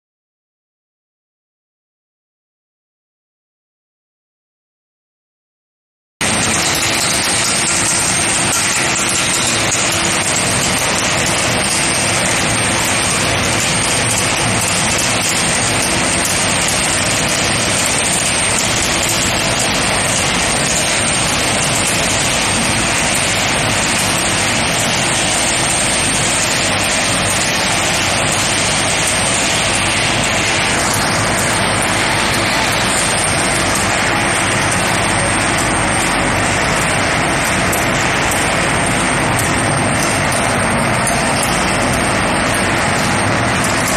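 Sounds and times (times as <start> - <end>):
forging machinery running: 6.2 - 43.9.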